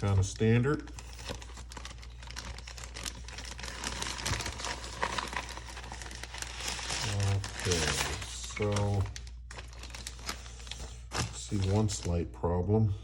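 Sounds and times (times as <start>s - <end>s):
packaging crinkling: 0.0s - 12.2s.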